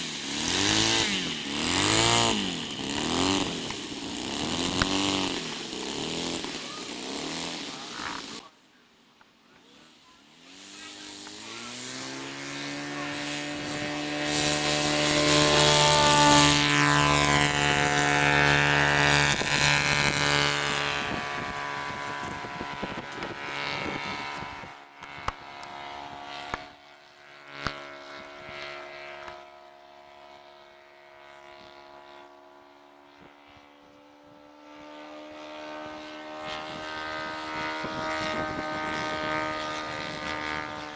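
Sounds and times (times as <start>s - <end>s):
model airplane motor and propeller: 0.0s - 8.6s, 9.2s - 40.9s.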